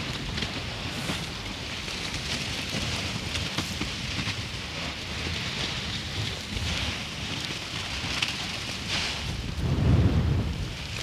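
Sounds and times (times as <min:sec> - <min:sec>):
lava crackling and splashing hiss: 0:00.0 - 0:11.0
volcano low rumble: 0:00.0 - 0:11.0.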